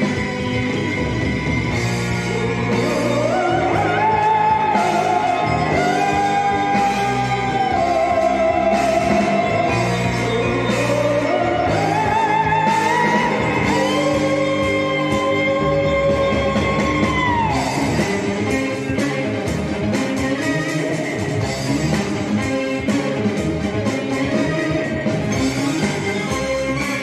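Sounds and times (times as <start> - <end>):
band playing with steady beat: 0.0 - 27.0.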